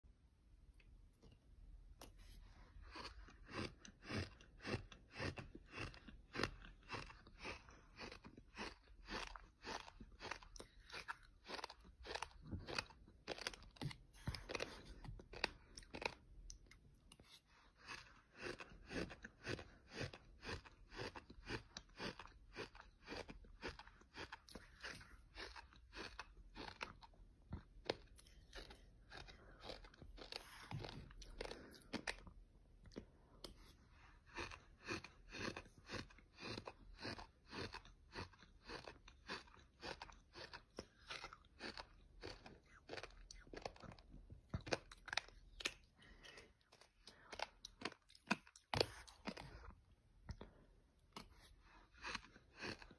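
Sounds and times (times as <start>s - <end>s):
sand crunching while chewed: 2.9s - 32.3s, 34.3s - 52.9s.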